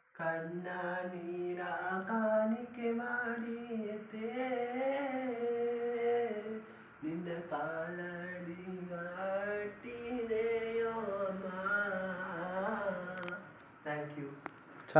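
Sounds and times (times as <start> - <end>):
man singing unaccompanied: 0.1 - 14.4.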